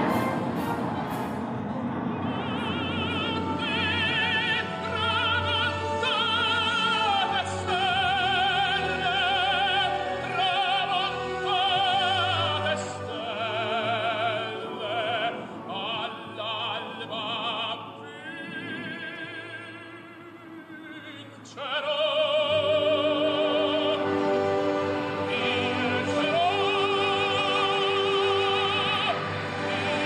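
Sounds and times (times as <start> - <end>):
orchestral accompaniment: 0.0 - 30.0
operatic solo singing: 2.1 - 30.0.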